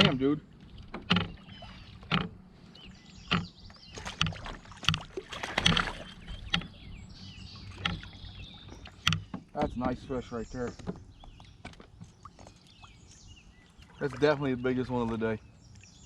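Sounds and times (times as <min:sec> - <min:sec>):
water splashing: 0:00.0 - 0:06.9, 0:07.6 - 0:15.4.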